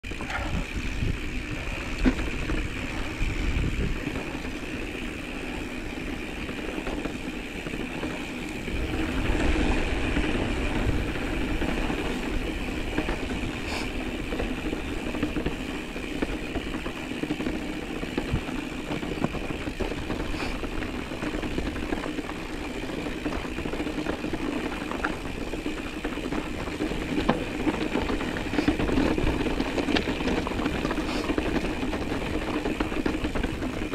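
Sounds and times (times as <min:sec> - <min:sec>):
bike tyres rumbling on rocky trail: 0:00.0 - 0:33.9
constant hum: 0:00.0 - 0:33.9.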